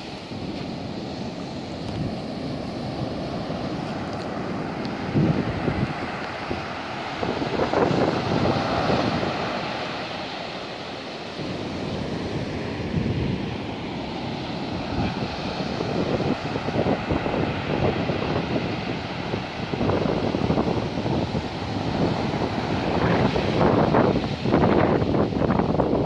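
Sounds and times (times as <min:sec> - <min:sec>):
rough surf breaking on beach: 0:00.0 - 0:26.0
wind buffeting microphone: 0:00.0 - 0:26.0.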